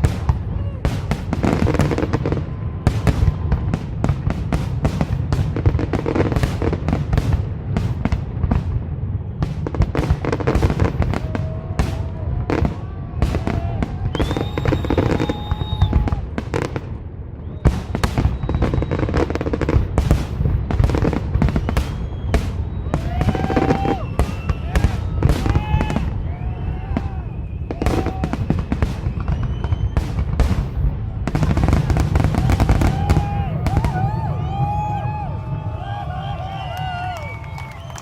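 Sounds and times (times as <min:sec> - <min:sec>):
fireworks bursts and crackles: 0:00.0 - 0:38.0
fireworks whistling: 0:00.0 - 0:38.0.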